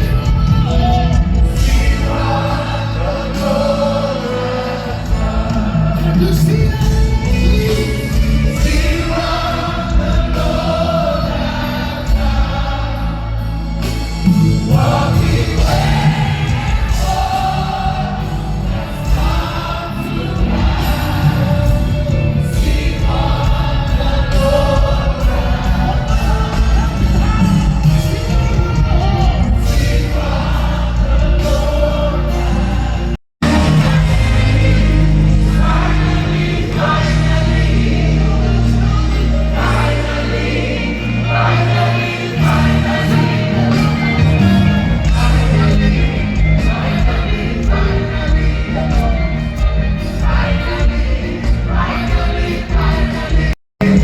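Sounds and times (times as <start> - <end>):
band with heavy bass: 0.0 - 54.0
choir singing held notes: 0.0 - 54.0.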